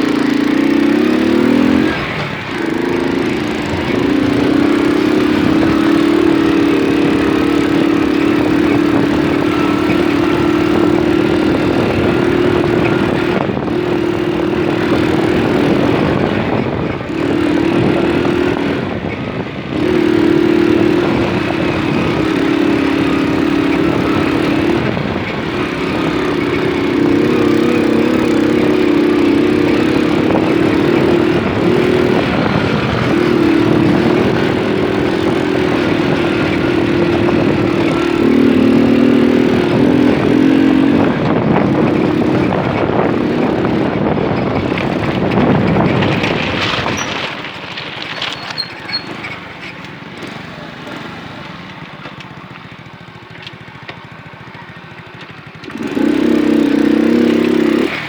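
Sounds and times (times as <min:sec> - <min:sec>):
steady rushing noise: 0:00.0 - 0:48.3
moped engine running: 0:00.0 - 0:58.0.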